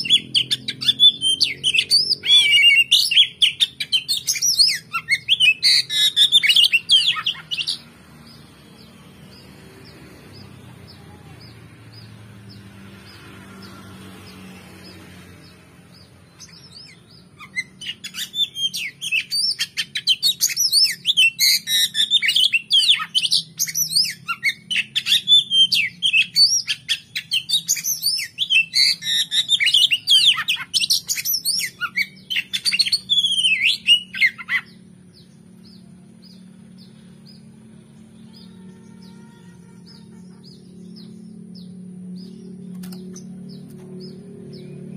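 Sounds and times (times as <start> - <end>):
bird song whistles and chatter: 0.0 - 44.9.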